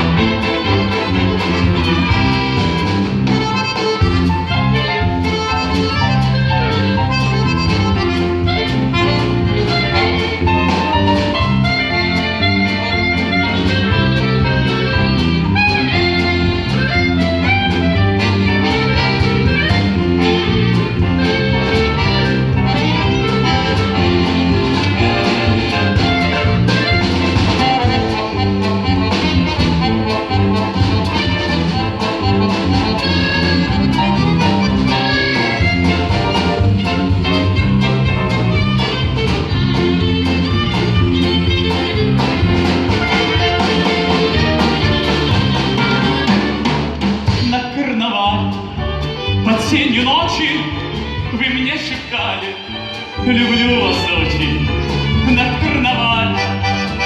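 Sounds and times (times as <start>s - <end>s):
instrumental ensemble playing: 0.0s - 57.0s.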